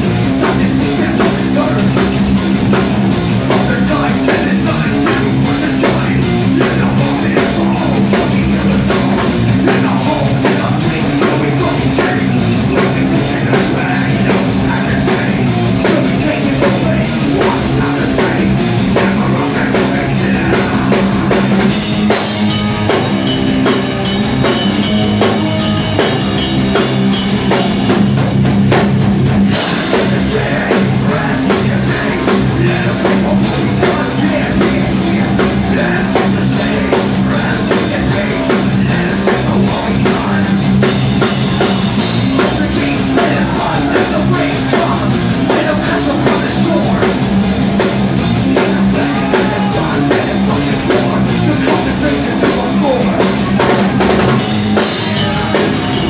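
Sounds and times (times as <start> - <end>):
heavy rock band playing: 0.0 - 56.0.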